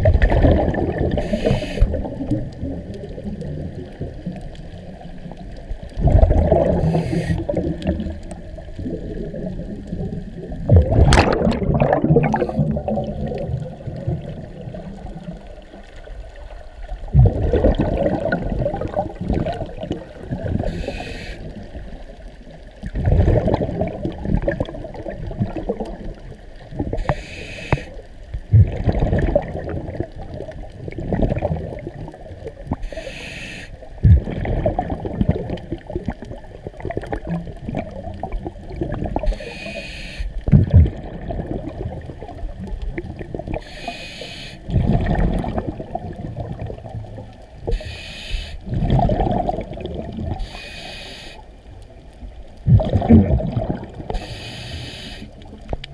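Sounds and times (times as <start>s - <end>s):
gurgling bubble surges: 0.0s - 20.8s, 21.4s - 27.1s, 28.3s - 32.9s, 33.8s - 39.3s, 40.4s - 43.6s, 44.6s - 47.8s, 48.6s - 50.4s, 51.7s - 54.2s
underwater watery rush: 0.0s - 55.9s.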